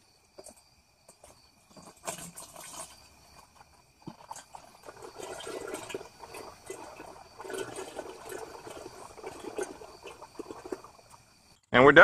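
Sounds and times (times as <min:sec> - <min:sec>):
liquid pouring through funnel: 0:01.6 - 0:11.6.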